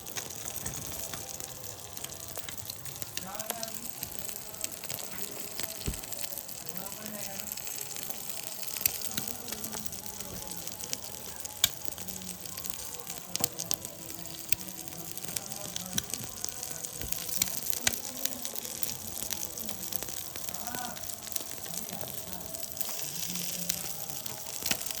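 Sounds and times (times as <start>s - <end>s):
eggs sizzling in oil: 0.0s - 25.0s
oil crackling and popping: 0.0s - 25.0s.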